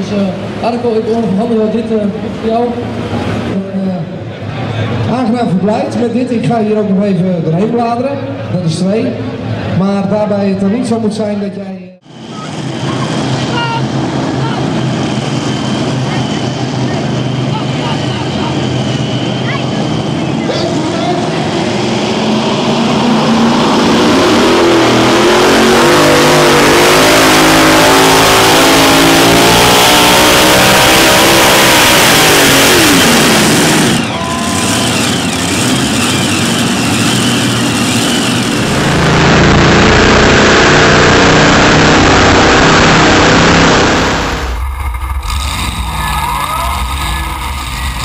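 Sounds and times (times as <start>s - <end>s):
tractor engines at full throttle: 0.0s - 11.4s, 12.0s - 48.0s.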